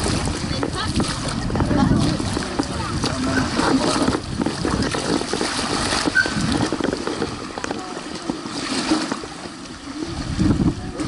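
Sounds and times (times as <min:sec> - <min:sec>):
seawater sloshing and lapping: 0:00.0 - 0:11.0
wind buffeting microphone: 0:00.0 - 0:11.0.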